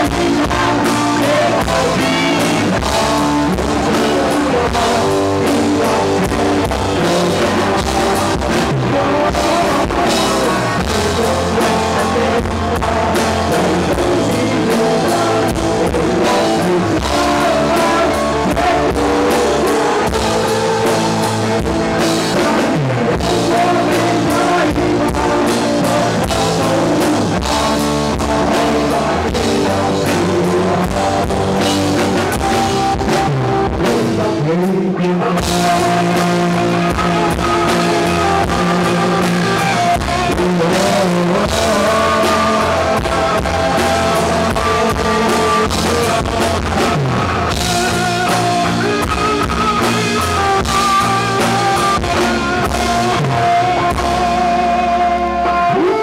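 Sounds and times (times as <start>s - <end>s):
drum kit: 0.0s - 56.0s
electric guitars: 0.0s - 56.0s
male lead vocal: 0.0s - 56.0s.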